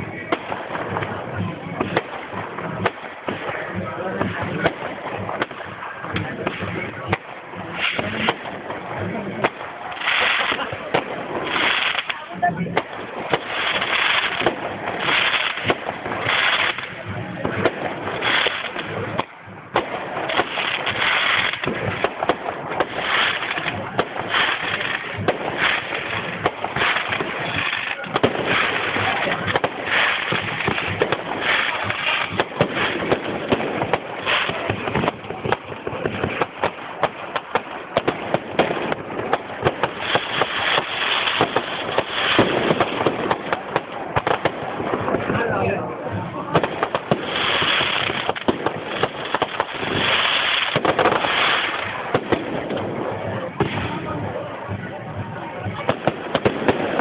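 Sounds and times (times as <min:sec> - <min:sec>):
fireworks bangs and cracks: 0:00.0 - 0:57.0
fireworks crackling hiss: 0:00.0 - 0:57.0.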